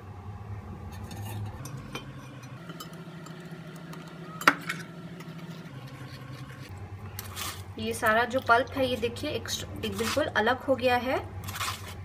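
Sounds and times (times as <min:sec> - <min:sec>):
low hum: 0:00.0 - 0:11.5.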